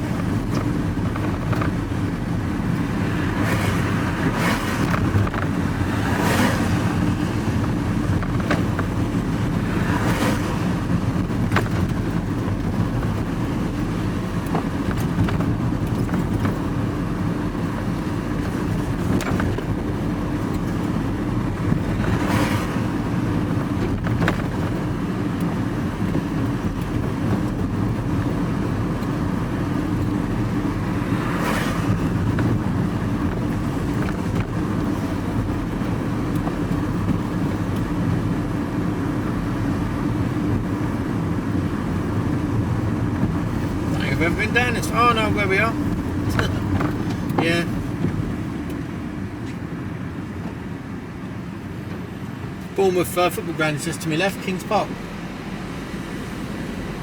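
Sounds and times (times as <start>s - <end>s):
vehicle engine drone and road noise: 0.0s - 57.0s.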